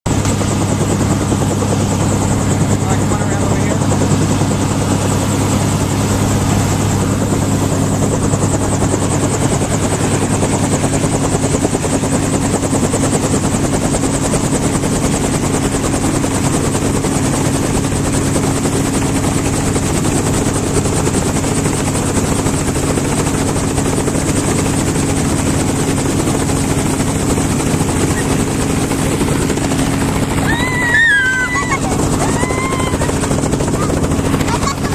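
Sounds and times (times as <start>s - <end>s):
helicopter rotor and engine drone: 0.1s - 34.9s.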